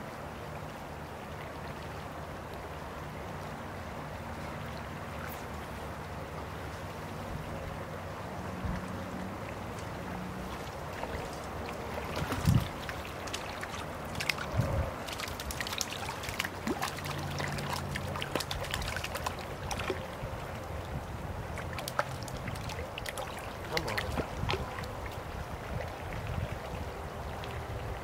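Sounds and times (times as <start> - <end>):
creek water running: 0.0 - 28.0
small water splashes: 0.0 - 28.0.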